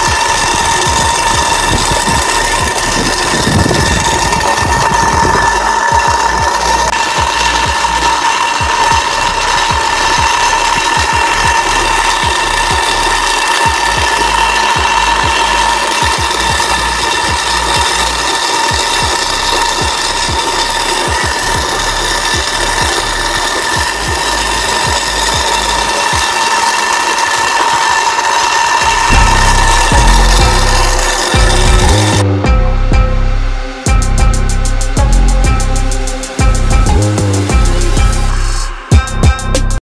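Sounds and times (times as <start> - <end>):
toy motor whining: 0.0 - 32.2.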